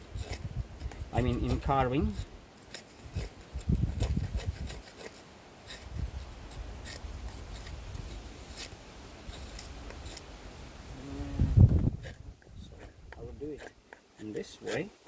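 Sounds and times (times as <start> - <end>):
wind rumbling on microphone: 0.0 - 2.4, 3.0 - 4.9, 5.7 - 13.6
knife scraping wood: 0.0 - 10.4, 11.6 - 15.0.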